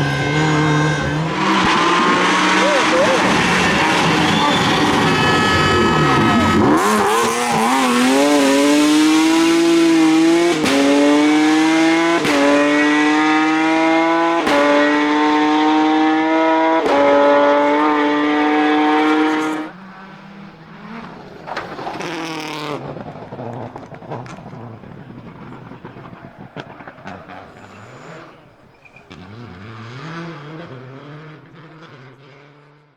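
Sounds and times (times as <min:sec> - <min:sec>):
faint engine revving: 0:00.0 - 0:32.9
rally car engine accelerating: 0:00.0 - 0:32.9.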